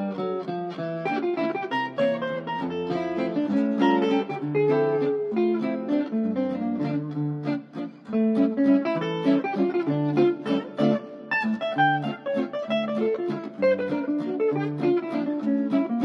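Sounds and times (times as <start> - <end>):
plucked guitar music: 0.0 - 16.0.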